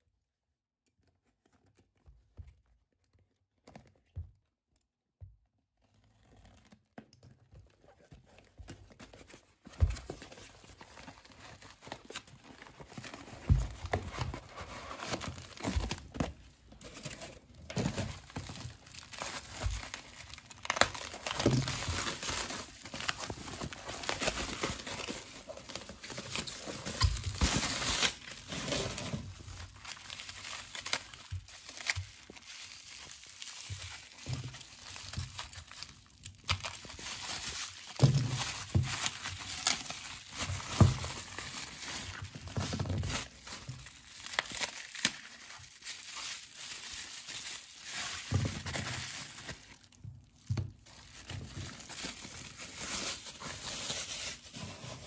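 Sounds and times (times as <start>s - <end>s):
bubble wrap and cardboard crinkling: 5.8s - 55.0s.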